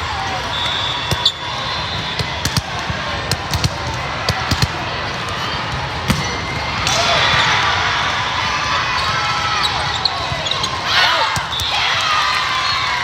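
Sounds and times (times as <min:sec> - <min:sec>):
volleyballs hit and bouncing: 0:00.0 - 0:08.3, 0:09.0 - 0:12.7
crowd chatter: 0:00.0 - 0:13.0.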